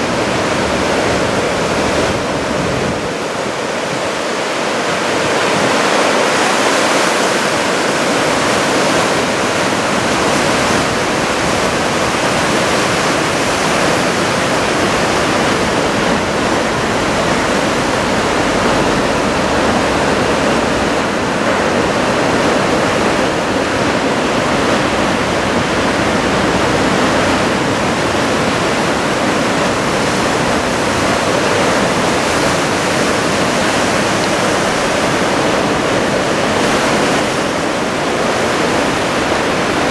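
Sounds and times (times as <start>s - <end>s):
heavy surf breaking on shore: 0.0s - 39.9s.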